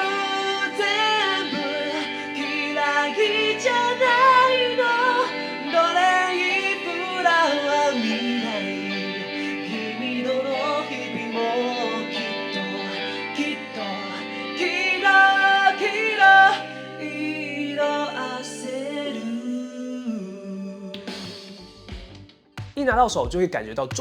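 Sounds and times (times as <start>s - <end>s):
backing track: 0.0s - 19.4s
person singing with reverb: 0.0s - 21.8s.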